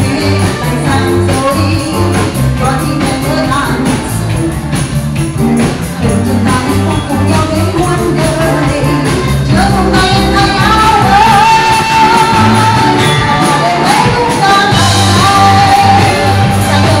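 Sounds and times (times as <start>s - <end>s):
pop dance music bass line: 0.0s - 17.0s.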